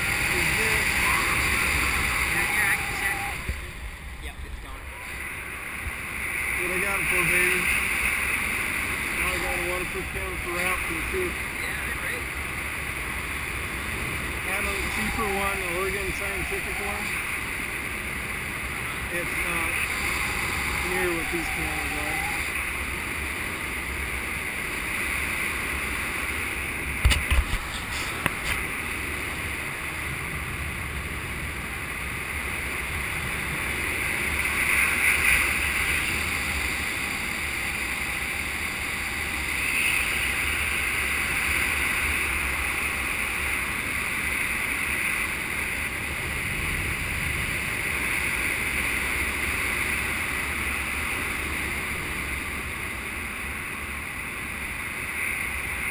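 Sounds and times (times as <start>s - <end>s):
wind rushing over camera: 0.0s - 55.9s.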